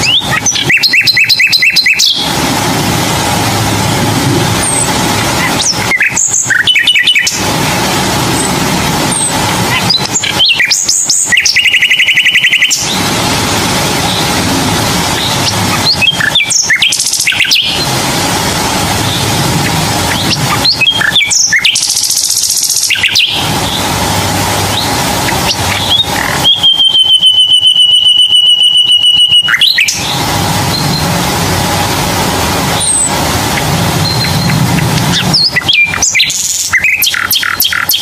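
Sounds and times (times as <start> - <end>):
steady hiss: 0.0 - 28.2, 29.4 - 38.0
bird chirps and trills: 0.0 - 31.6, 32.6 - 38.0.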